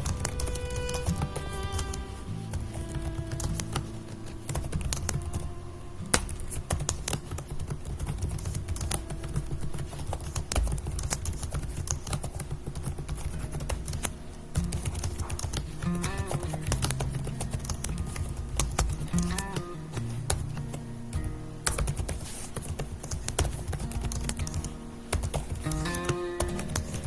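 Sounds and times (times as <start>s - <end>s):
typing on a keyboard: 0.0s - 5.5s, 6.2s - 27.0s
soft instrumental music: 0.0s - 11.7s, 13.1s - 27.0s.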